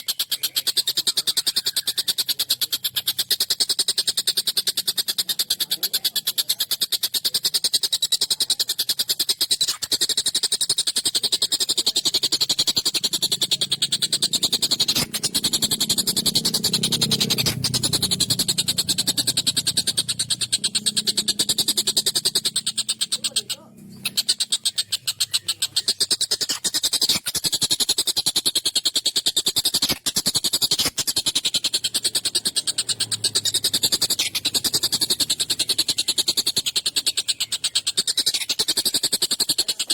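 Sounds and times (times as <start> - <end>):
kingfisher harsh rapid chatter: 0.0 - 39.9.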